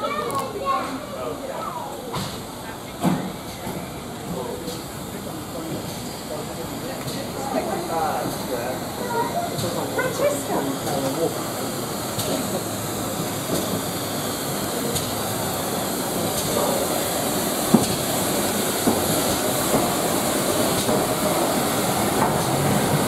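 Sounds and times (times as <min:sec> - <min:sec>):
train wheels rumbling on rails: 0:01.9 - 0:23.0.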